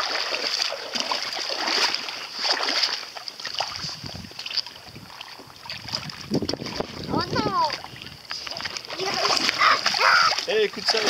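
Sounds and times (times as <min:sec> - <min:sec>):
seawater splashing over pebbles: 0:00.0 - 0:11.0.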